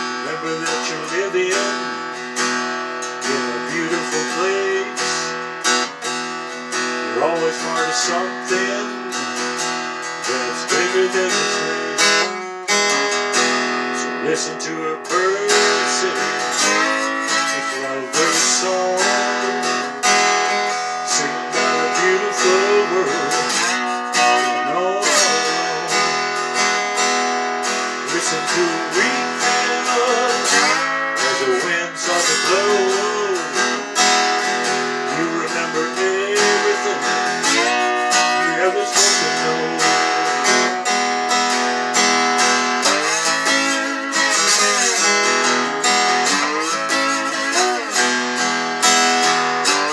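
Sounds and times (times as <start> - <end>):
acoustic guitar strummed chords: 0.0 - 49.9
guitar lead melody bending: 0.0 - 49.9.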